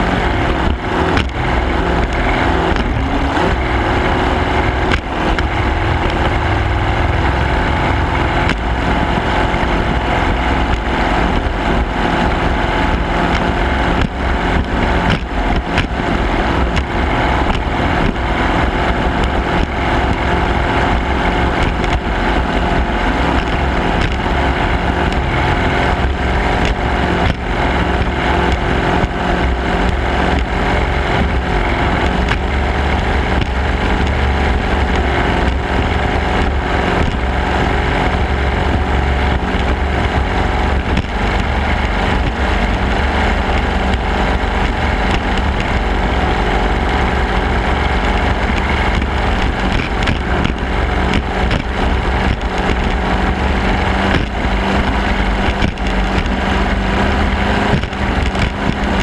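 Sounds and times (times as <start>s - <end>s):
boat engine running hard: 0.0s - 59.0s
wind buffeting microphone: 0.0s - 59.0s.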